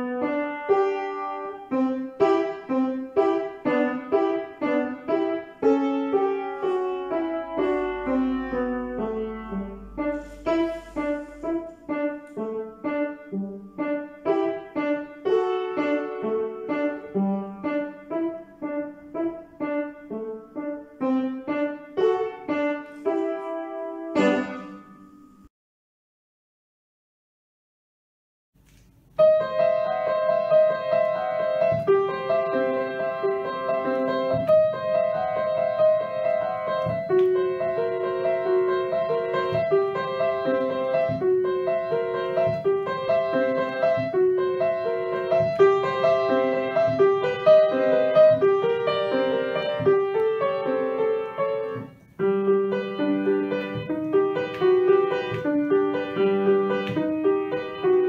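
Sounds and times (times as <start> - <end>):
solo grand piano melody: 0.0 - 25.5, 28.6 - 58.0.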